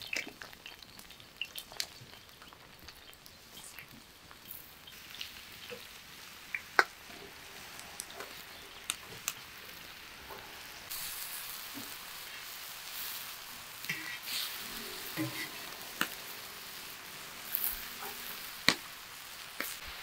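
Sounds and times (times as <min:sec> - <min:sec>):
chicken frying on hot stone: 0:00.0 - 0:20.0
mushrooms sizzling in a pan: 0:00.0 - 0:20.0.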